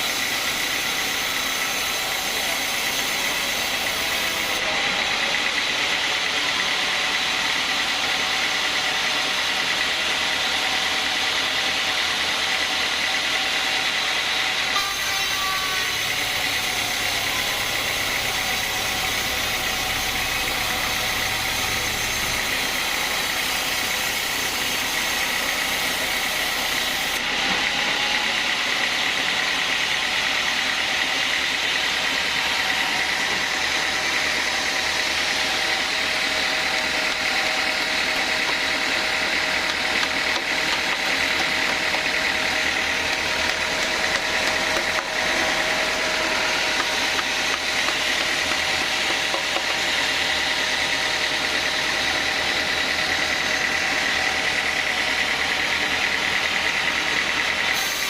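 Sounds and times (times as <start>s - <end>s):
band saw running: 0.0s - 58.0s
constant high whine: 0.0s - 58.0s.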